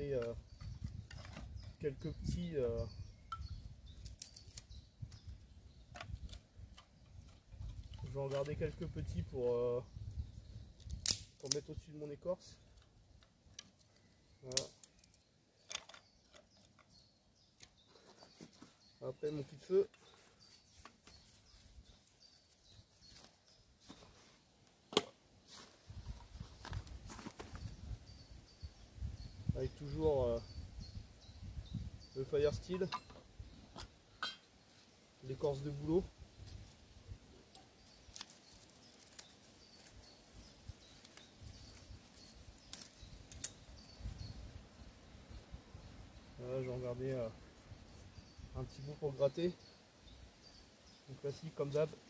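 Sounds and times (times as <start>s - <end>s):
faint outdoor background: 0.0s - 52.0s.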